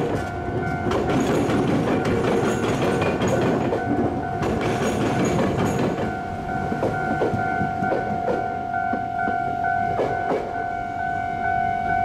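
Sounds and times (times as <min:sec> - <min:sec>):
train wheels clattering over rail joints: 0:00.0 - 0:10.6
level crossing warning bell: 0:00.0 - 0:12.0.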